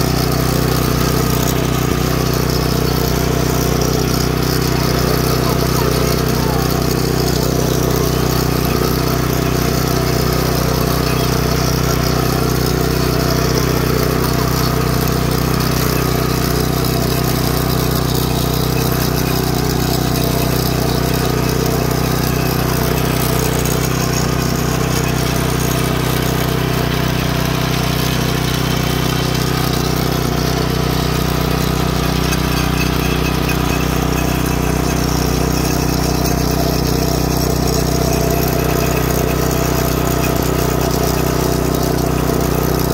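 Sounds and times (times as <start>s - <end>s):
rototiller engine droning: 0.0s - 42.9s.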